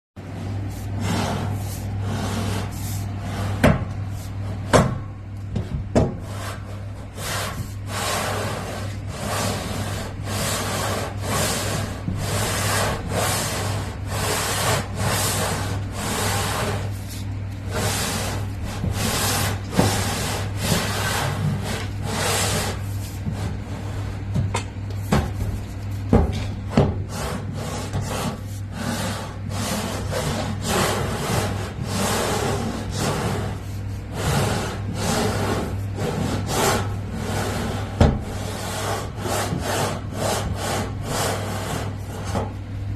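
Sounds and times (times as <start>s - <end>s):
scraper scraping metal duct: 0.2s - 42.6s
steady low hum: 0.2s - 42.9s.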